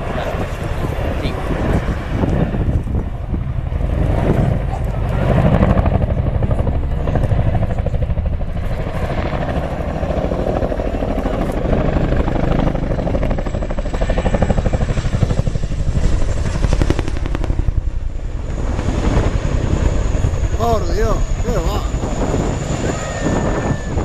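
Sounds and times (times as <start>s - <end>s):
helicopter rotor blades beating: 0.0s - 24.0s.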